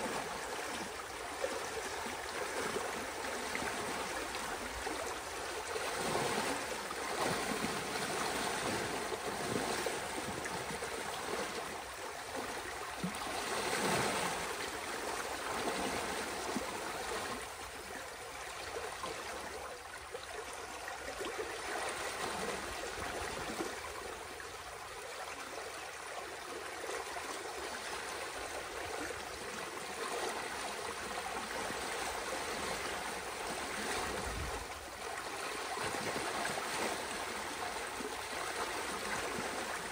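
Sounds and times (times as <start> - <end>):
water splashes: 0.0 - 39.9.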